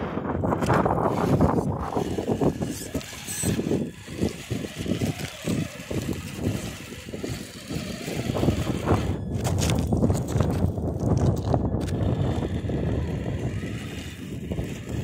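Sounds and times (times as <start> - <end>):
electric motor whine: 0.0 - 15.0
wind buffeting microphone: 0.0 - 15.0
toy car driving over gravel: 0.2 - 15.0.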